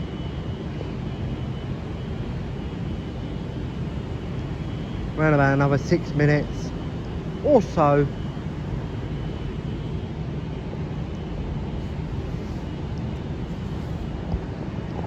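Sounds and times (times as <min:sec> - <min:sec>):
faint steady hum: 0:00.0 - 0:15.0
railway station rumble and hiss: 0:00.0 - 0:15.0.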